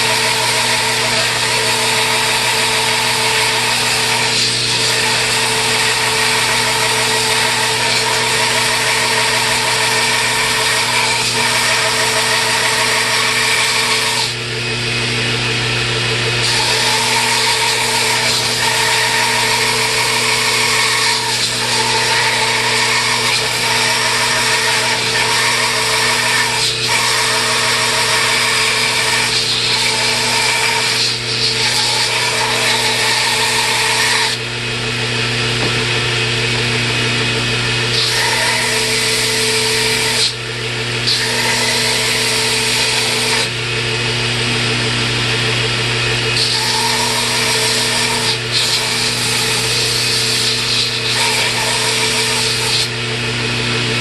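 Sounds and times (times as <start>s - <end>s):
wood being cut hissing: 0.0s - 15.1s, 16.1s - 34.5s, 37.2s - 43.7s, 46.2s - 54.0s
power tool motor humming: 0.0s - 54.0s.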